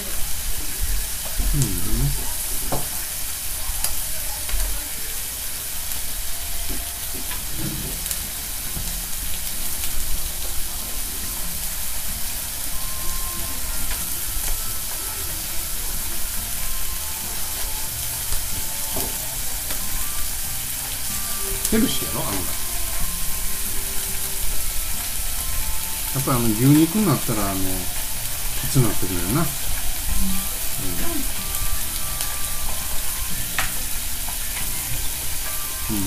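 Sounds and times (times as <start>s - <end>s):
food sizzling on griddle: 0.0s - 36.0s.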